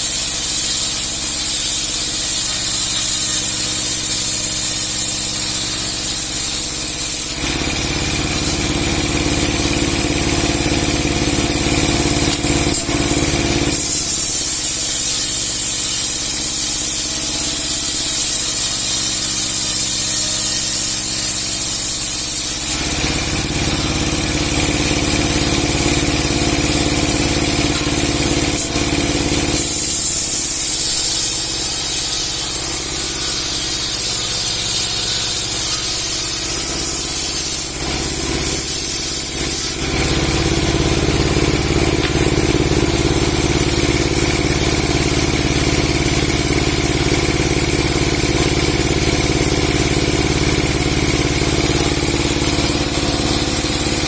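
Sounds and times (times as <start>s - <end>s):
log-sawing machine engine: 0.0s - 54.0s
saw blade cutting log: 0.0s - 54.0s.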